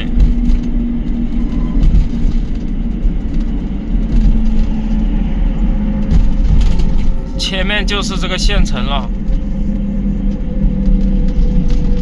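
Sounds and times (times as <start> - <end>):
road rumble: 0.0 - 12.0
steady hum: 0.0 - 12.0.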